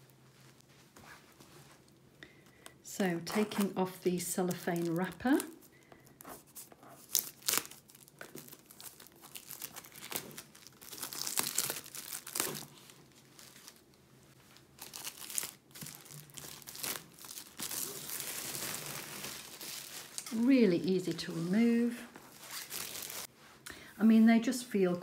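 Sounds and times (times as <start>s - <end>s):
shrink-wrap crinkling: 3.1s - 23.3s.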